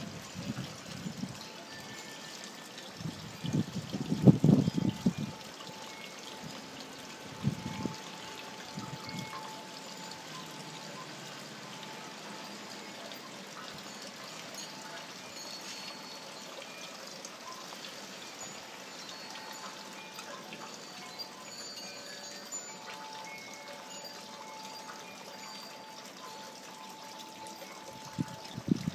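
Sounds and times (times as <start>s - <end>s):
water trickling from wall fountain: 0.0s - 28.9s.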